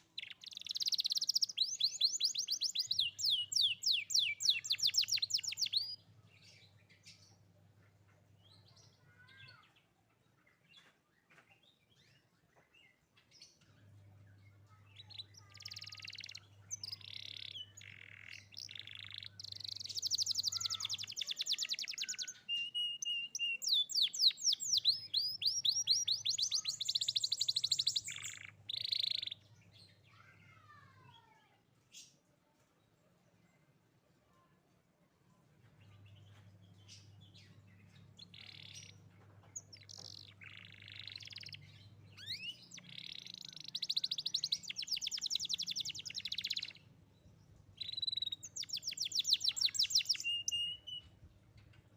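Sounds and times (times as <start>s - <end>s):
canary singing trills and chirps: 0.0s - 9.8s, 11.6s - 31.2s, 35.8s - 51.9s.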